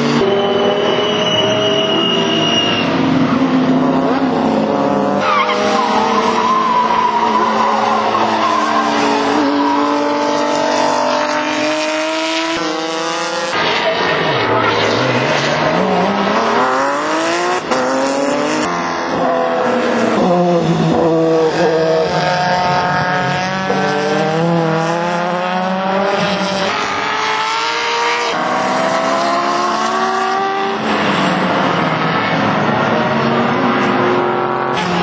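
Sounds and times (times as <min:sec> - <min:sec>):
race car engines passing: 0:00.0 - 0:35.0.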